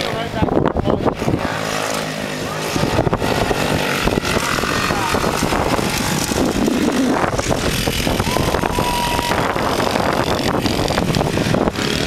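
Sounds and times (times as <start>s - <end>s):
mini bike engines revving: 0.0s - 12.0s.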